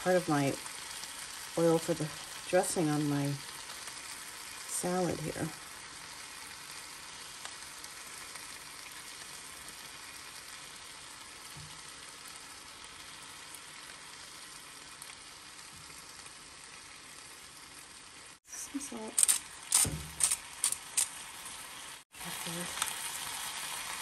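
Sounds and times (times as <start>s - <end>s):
steak sizzling in a pan: 0.0s - 24.0s.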